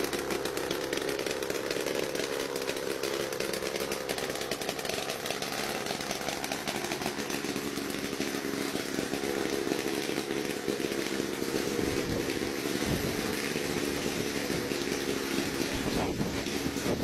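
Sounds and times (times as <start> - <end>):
small engine and propeller running: 0.0 - 17.0.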